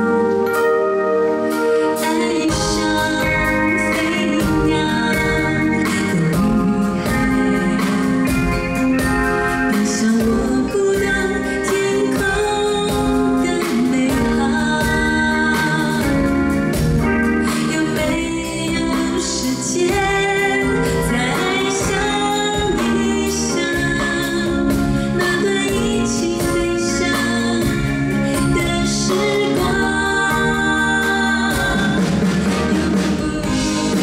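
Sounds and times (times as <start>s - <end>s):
band accompaniment: 0.0s - 34.0s
woman singing pop song: 1.6s - 34.0s.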